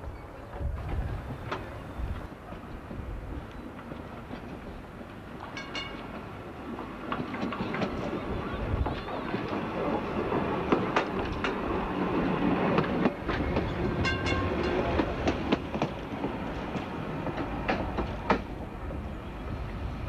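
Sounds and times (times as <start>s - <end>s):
tram wheels rumbling and clicking: 0.0s - 20.0s.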